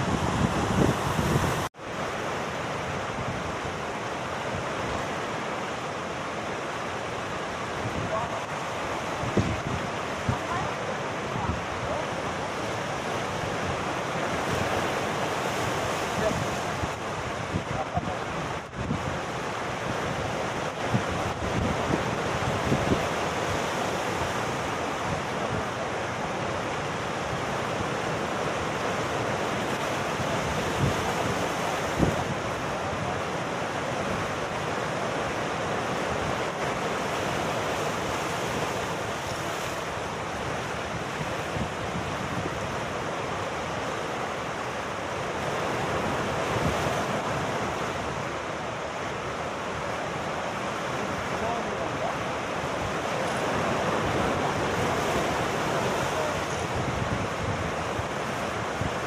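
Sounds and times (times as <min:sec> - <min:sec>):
wind gusting on microphone: 0:00.0 - 0:06.3, 0:07.1 - 0:59.0
sea surf breaking on rocks: 0:00.0 - 0:59.0.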